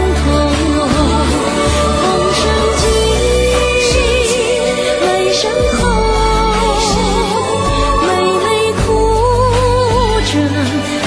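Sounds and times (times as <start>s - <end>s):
person singing with vibrato: 0.0s - 11.0s
sustained backing chords: 0.0s - 11.0s.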